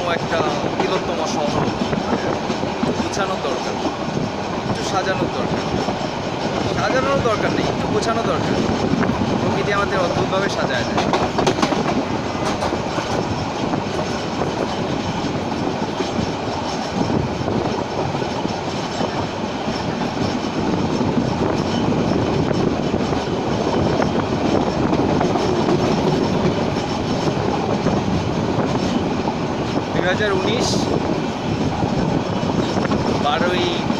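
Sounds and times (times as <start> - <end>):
train rumbling and rattling: 0.0 - 33.9
wheels clicking over rails: 0.3 - 31.2.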